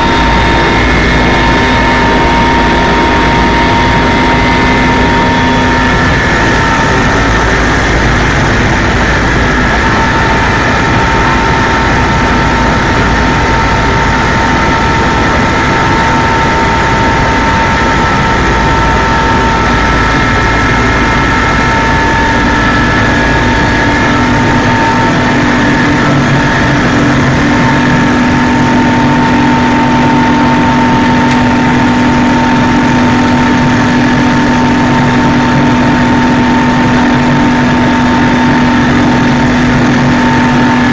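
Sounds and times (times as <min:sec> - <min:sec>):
helicopter turbine and rotor noise: 0:00.0 - 0:40.9
high whine: 0:00.0 - 0:40.9.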